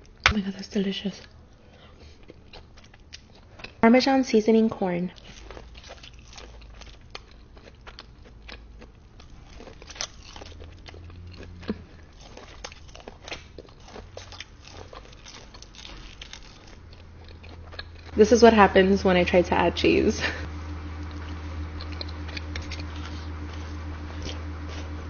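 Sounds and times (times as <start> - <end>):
crunchy chewing: 1.2 - 3.8, 5.0 - 18.4, 20.5 - 25.0.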